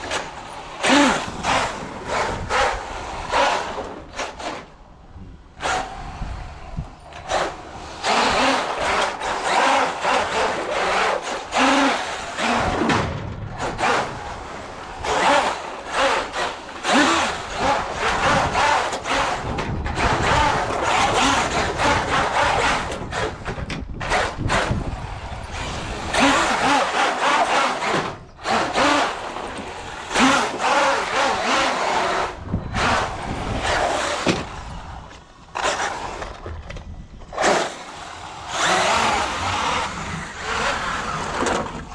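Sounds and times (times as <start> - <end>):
rc truck driving on wooden deck: 0.0 - 41.9.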